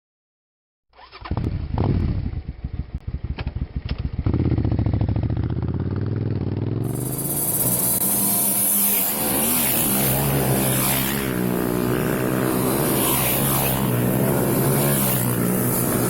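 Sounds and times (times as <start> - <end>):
motorbike engine running: 1.3 - 16.0.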